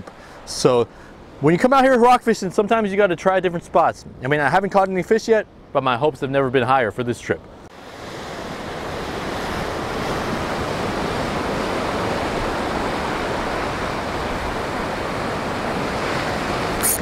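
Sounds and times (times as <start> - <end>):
waves on rocky shore: 0.0 - 5.9, 7.7 - 17.0
wind: 0.0 - 17.0.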